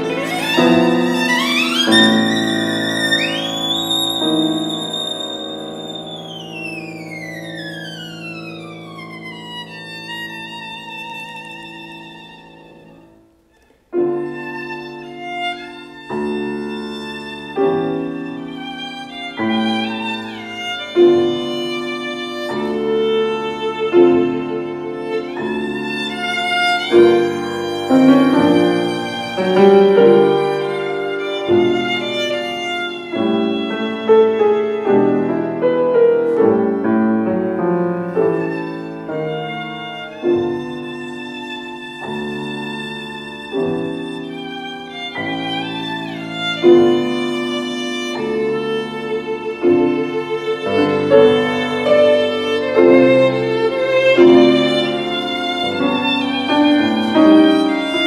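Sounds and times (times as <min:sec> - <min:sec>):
piano chords: 0:00.0 - 0:58.0
violin melody: 0:00.0 - 0:58.0.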